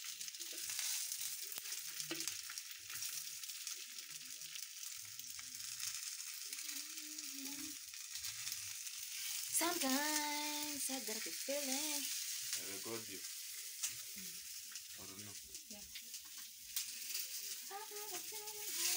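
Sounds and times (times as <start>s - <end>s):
sausages sizzling in a frying pan: 0.0s - 18.9s.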